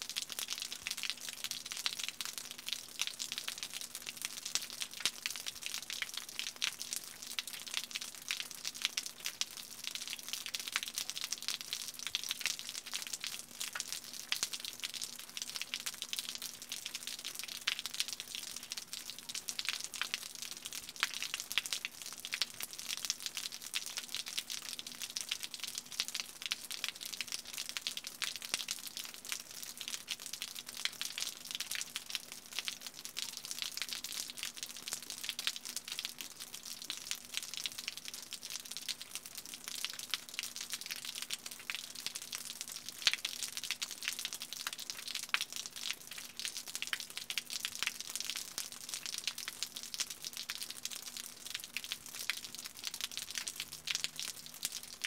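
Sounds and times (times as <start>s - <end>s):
rain dripping off a roof: 0.0s - 55.0s.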